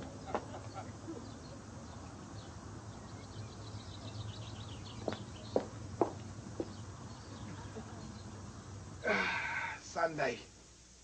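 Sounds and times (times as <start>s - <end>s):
faint birds twittering: 0.0s - 11.0s.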